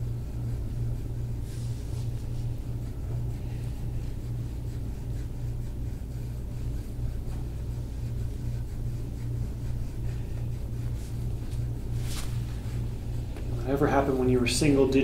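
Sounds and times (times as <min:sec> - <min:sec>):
pulsing low hum: 0:00.0 - 0:15.0.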